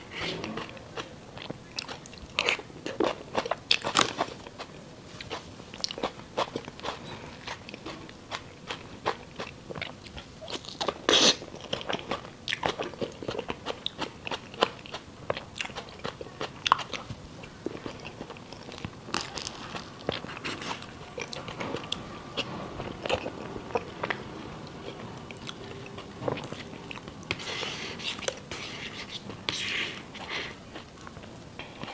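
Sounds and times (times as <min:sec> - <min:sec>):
close chewing and mouth clicks: 0:00.5 - 0:31.9.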